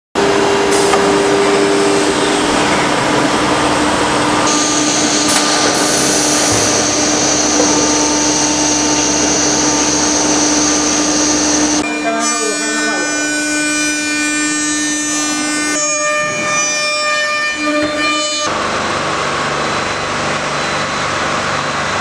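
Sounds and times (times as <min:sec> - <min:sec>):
wood router running: 0:00.2 - 0:18.6
high machine whine: 0:00.2 - 0:22.0.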